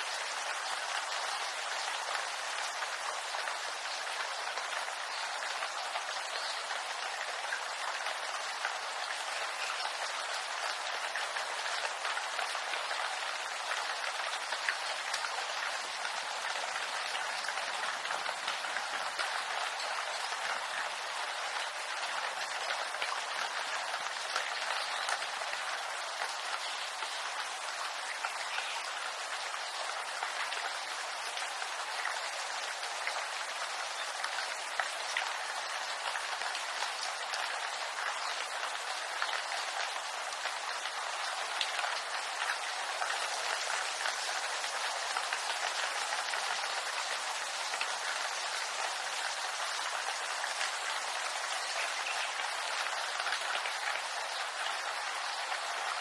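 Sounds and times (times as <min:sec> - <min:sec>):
rain on bamboo leaves: 0:00.0 - 0:56.0.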